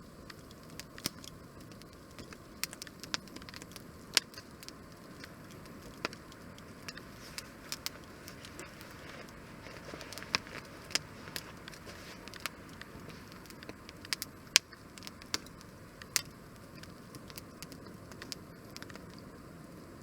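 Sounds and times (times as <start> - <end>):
soft hiss: 0.0 - 20.0
wood fire crackling and popping: 0.0 - 20.0.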